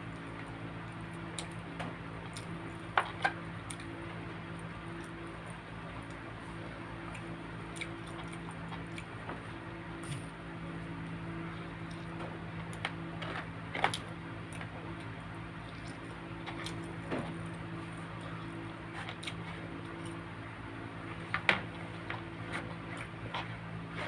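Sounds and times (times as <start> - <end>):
low steady hum: 0.0 - 24.0
man eating with smacking sounds: 0.0 - 24.0.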